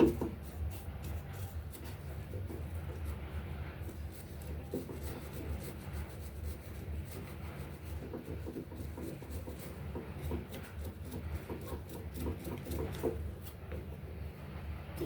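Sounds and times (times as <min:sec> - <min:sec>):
scratchy scrubbing on metal parts: 0:00.0 - 0:15.0
steady low hum: 0:00.0 - 0:15.0.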